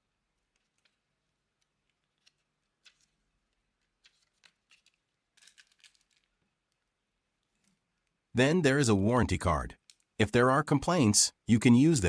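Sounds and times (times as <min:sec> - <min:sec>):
paper and card rustling and clicking: 0:00.3 - 0:10.2.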